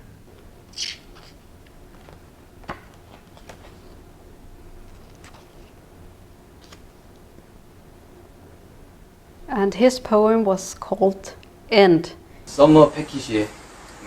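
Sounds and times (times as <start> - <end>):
low steady room hum: 0.0 - 14.0.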